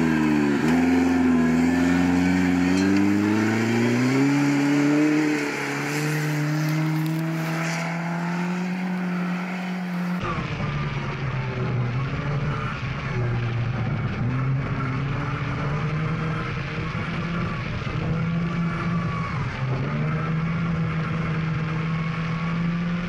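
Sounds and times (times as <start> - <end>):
rally car engine at full throttle: 0.0 - 23.0.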